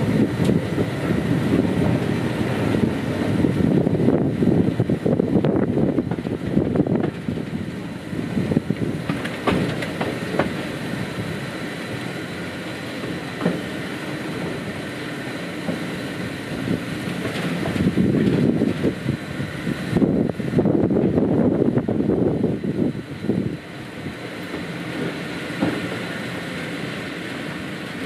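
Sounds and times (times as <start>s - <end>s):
train rumbling on track: 0.0s - 28.0s
wheels clicking over rails: 0.0s - 28.0s.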